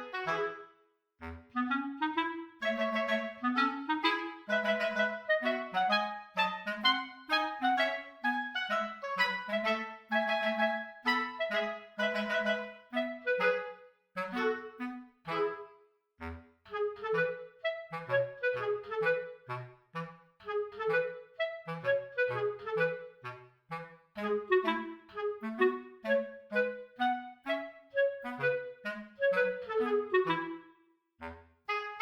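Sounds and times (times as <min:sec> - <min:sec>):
bouncy woodwind tune: 0:00.0 - 0:32.0.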